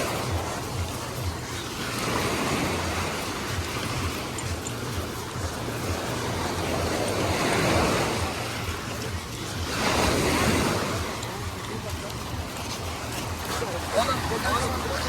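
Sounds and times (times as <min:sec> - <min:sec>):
small waves washing on beach: 0:00.0 - 0:15.0.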